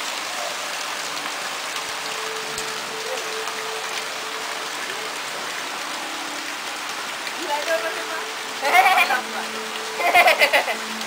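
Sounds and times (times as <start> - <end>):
heavy rain on leaves and grass: 0.0 - 11.0.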